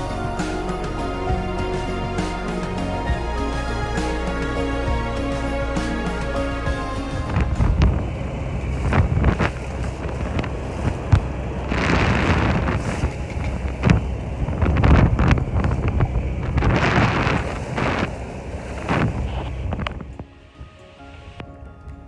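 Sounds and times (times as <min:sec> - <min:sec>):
water rushing along hull: 0:00.0 - 0:22.0
wind buffeting microphone: 0:00.0 - 0:22.0.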